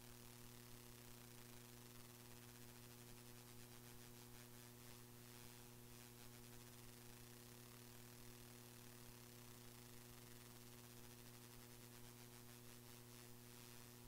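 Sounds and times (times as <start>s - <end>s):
faint electrical hum and hiss: 0.0s - 14.0s.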